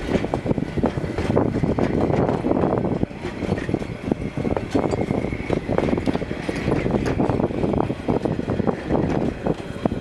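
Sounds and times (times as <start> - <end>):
carriages clattering: 0.0 - 10.0
steam train rumbling: 0.0 - 10.0.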